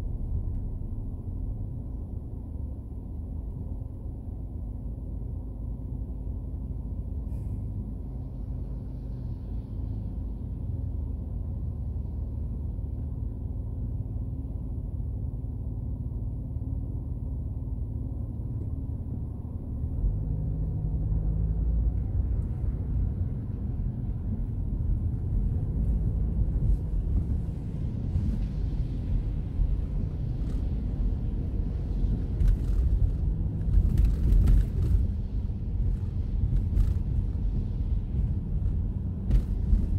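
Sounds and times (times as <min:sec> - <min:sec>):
car engine hum: 0:00.0 - 0:39.9
tyres on wet road: 0:05.4 - 0:39.9.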